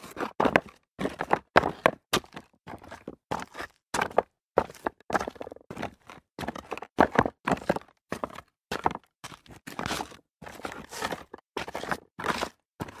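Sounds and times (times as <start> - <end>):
footsteps crunching on loose rock: 0.0 - 13.0.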